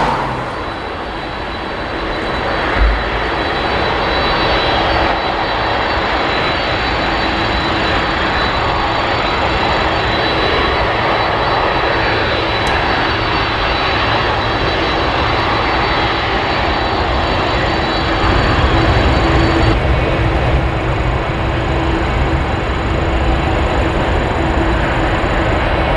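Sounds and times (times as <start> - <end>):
jet engines rushing with high whine: 0.0 - 25.9.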